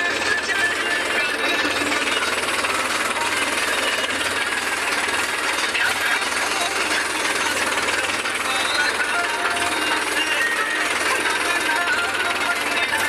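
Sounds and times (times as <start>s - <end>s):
tractor diesel engine rattling: 0.0s - 13.0s.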